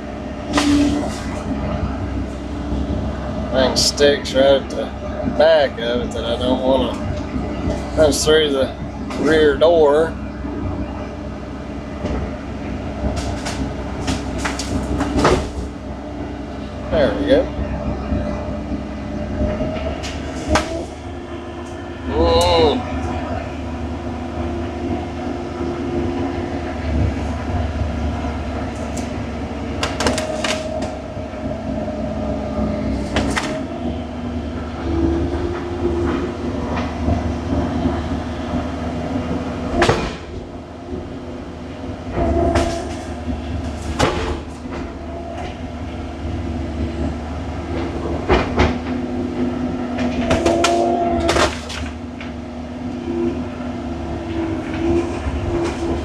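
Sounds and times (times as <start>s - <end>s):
metal clanks and knocks: 0.0s - 9.6s, 11.9s - 16.3s, 18.1s - 23.5s, 26.8s - 34.0s, 34.6s - 40.6s, 41.7s - 46.0s, 46.8s - 56.0s
excavator engine and hydraulics: 0.0s - 56.0s.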